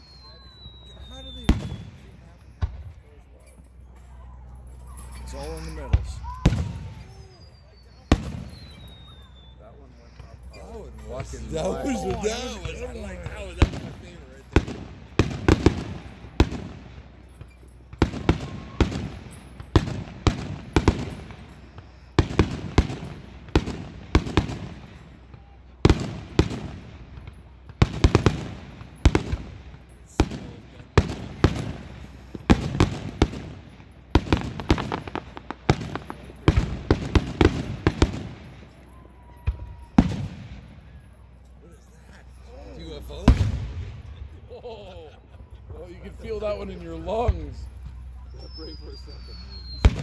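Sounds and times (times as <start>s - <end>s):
fireworks bursting: 0.0s - 3.1s, 5.2s - 42.4s, 43.0s - 44.2s, 45.7s - 50.0s.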